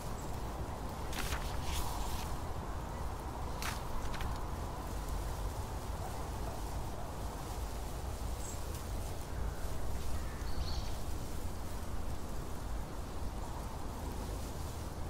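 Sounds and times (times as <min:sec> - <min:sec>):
steady low rumble with hiss: 0:00.0 - 0:15.0.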